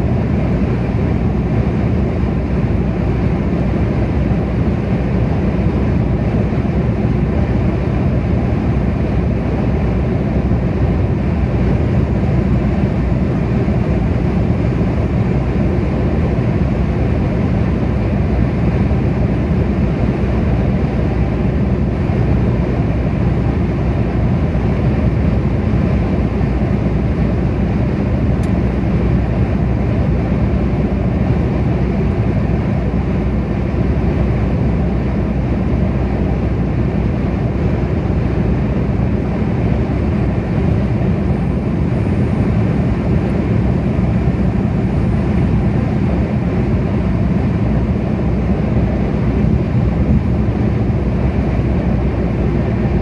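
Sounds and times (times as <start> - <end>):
car road noise at speed: 0.0 - 53.0.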